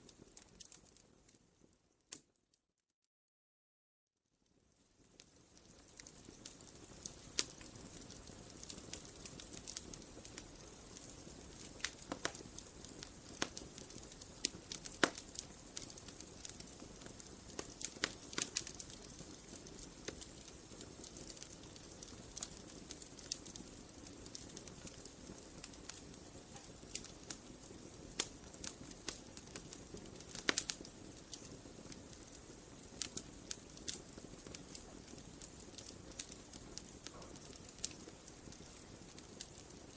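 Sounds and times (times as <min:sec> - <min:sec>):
campfire flames rushing: 0:05.1 - 0:39.9
burning wood popping and snapping: 0:05.8 - 0:39.9.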